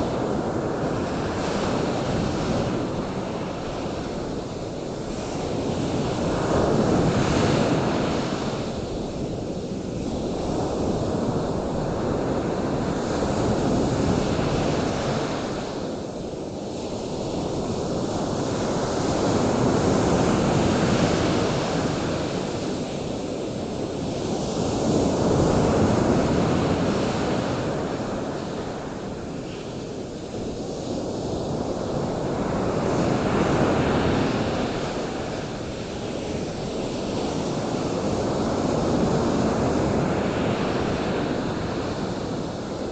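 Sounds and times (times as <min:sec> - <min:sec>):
waves rushing in: 0:00.0 - 0:42.9.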